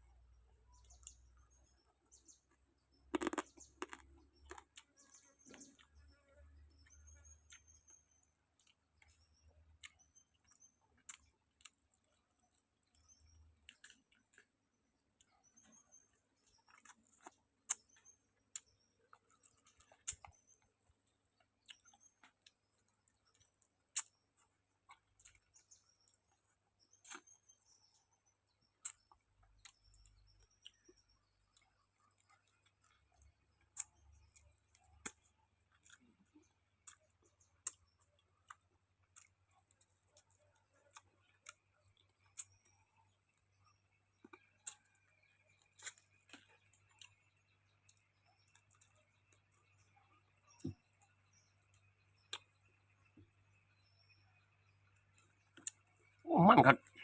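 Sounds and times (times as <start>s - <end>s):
small birds chirping: 0.0s - 57.0s
person chewing food: 0.7s - 53.4s, 54.9s - 56.2s.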